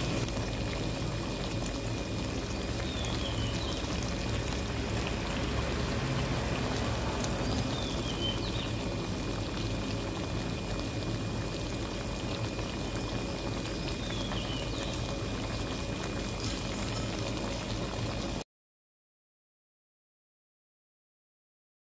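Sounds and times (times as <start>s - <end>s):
stir-fry sizzling in a wok: 0.0s - 18.4s.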